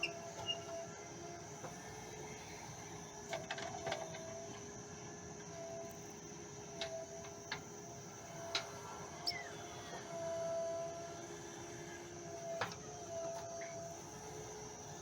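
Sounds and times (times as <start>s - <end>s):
backhoe loader whine: 0.0s - 15.0s.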